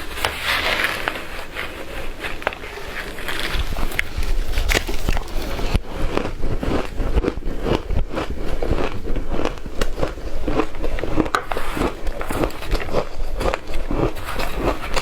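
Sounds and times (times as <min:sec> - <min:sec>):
person chewing shaved ice: 0:00.0 - 0:15.0.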